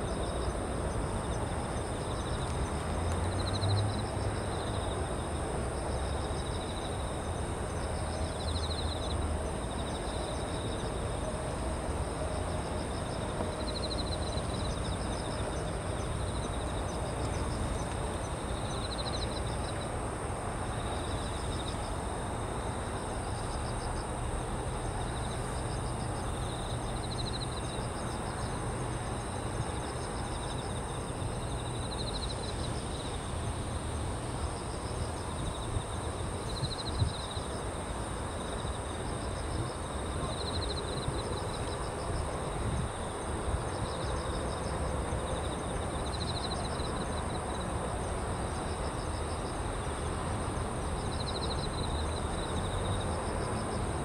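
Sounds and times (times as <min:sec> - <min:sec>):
distant city traffic hum: 0:00.0 - 0:54.0
insects trilling: 0:06.0 - 0:54.0.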